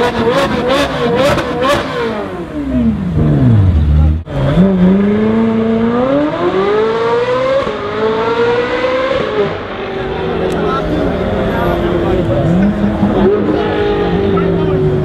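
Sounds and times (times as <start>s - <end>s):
car engine accelerating hard: 0.0s - 15.0s
car engine revving: 0.0s - 15.0s.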